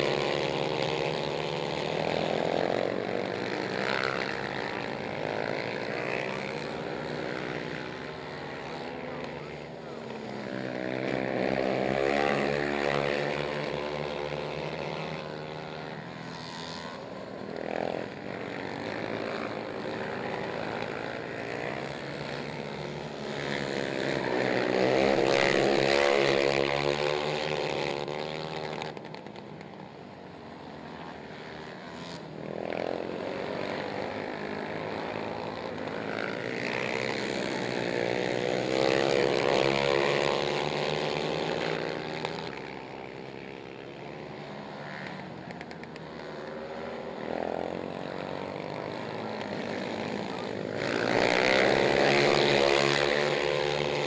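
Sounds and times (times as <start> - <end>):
atv engines revving: 0.0 - 54.0.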